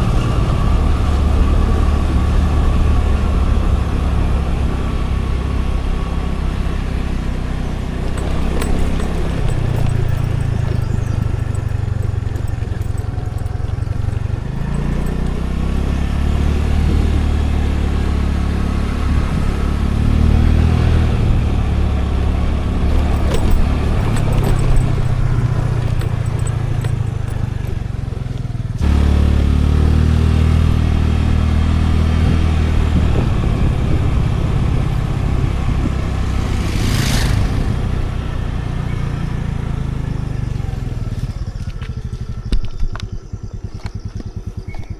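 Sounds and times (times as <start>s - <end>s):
road and wind noise: 0.0s - 44.9s
scooter engine running: 0.0s - 44.9s.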